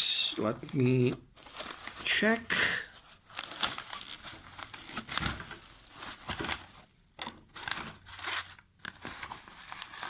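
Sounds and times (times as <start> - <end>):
packaging crinkling: 0.6 - 10.0.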